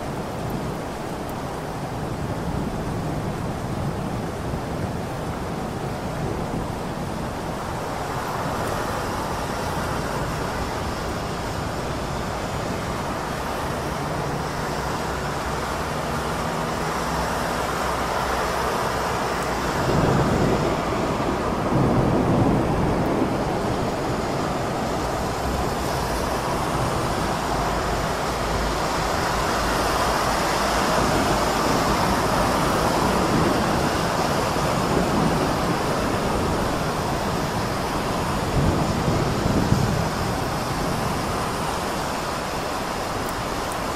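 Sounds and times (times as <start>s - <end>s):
heavy rain: 0.0s - 43.9s
traffic noise: 0.0s - 43.9s.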